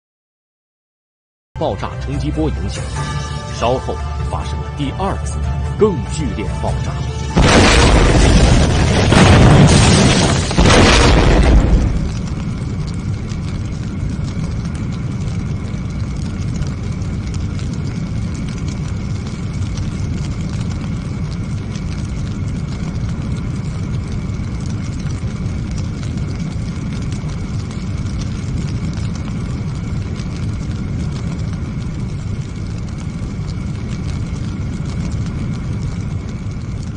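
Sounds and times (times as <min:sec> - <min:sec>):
deep fire rumble: 0:01.6 - 0:36.9
crackling and small pops: 0:06.9 - 0:36.9.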